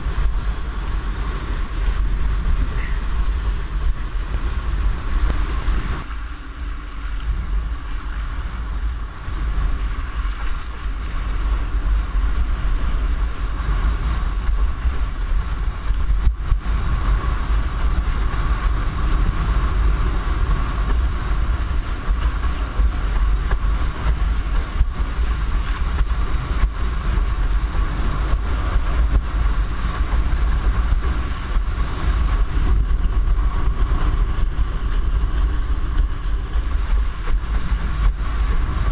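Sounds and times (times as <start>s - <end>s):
water rushing and spraying: 0.0s - 38.9s
wind buffeting microphone: 0.0s - 38.9s.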